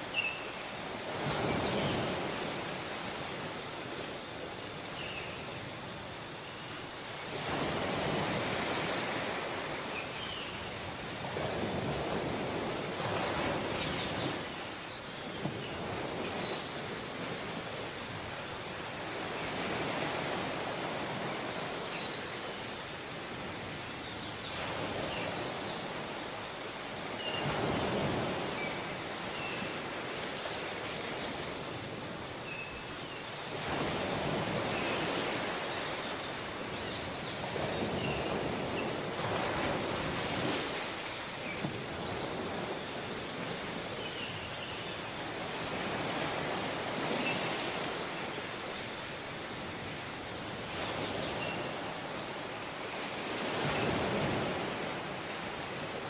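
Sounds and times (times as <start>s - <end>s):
waves washing on beach: 0.0s - 56.0s.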